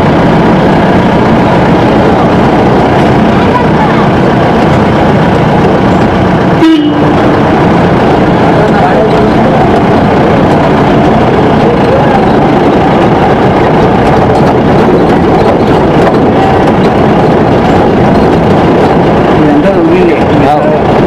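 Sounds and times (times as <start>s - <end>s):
vehicle on dirt road: 0.0s - 21.0s.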